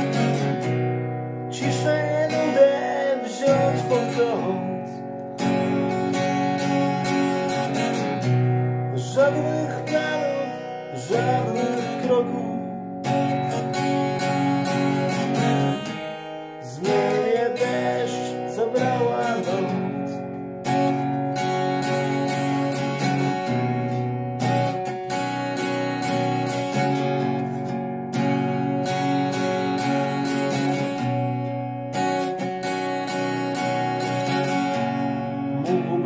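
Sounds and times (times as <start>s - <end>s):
acoustic guitar strummed: 0.0s - 36.0s.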